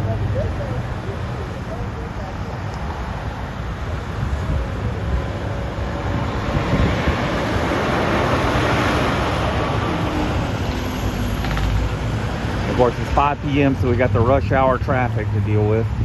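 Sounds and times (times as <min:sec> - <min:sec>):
highway traffic passing: 0:00.0 - 0:16.0.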